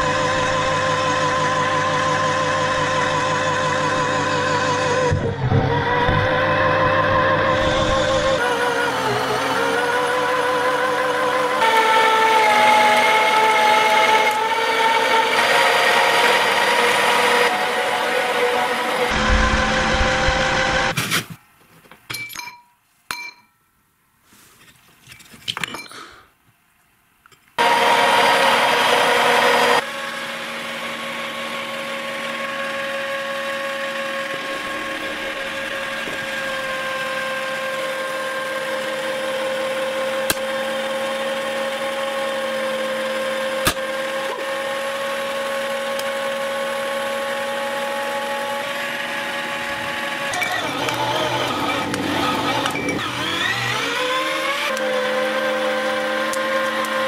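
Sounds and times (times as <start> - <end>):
meat grinder motor humming: 0.0 - 20.9, 27.6 - 57.0.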